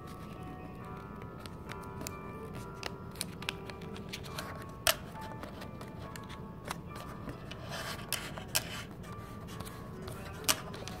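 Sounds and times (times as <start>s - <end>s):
paper folding and crinkling: 0.0s - 11.0s.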